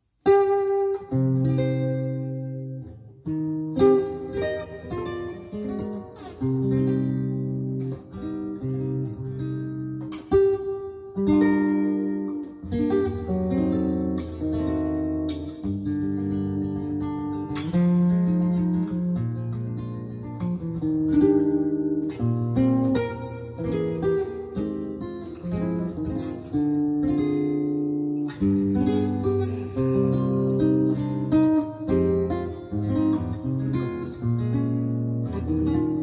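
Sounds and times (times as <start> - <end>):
fingerpicked solo guitar: 0.2 - 36.0.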